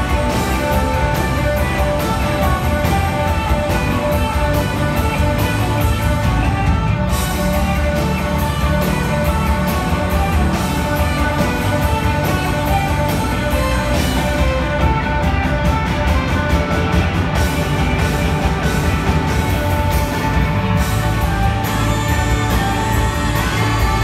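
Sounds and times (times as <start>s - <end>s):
blues-rock band playing: 0.0s - 24.0s.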